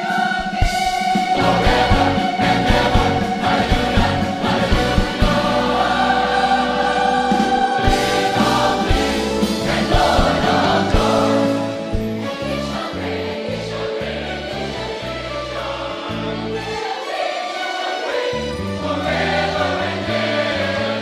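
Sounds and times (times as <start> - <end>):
choir singing a hymn: 0.0 - 21.0
instrumental accompaniment: 0.0 - 21.0.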